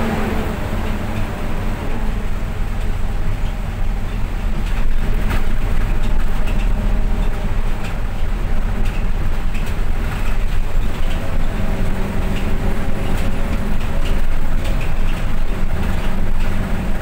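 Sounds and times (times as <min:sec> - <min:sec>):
bus engine drone: 0:00.0 - 0:17.0
road rumble: 0:00.0 - 0:17.0.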